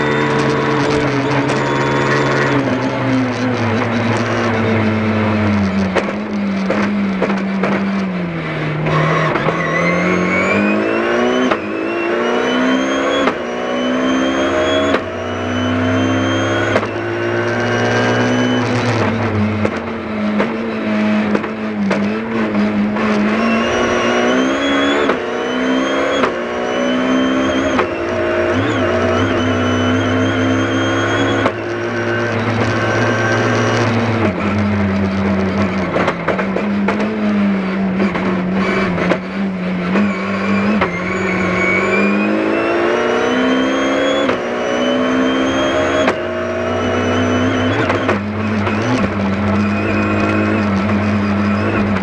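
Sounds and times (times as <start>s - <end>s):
rally car engine upshifting: 0.0s - 52.0s.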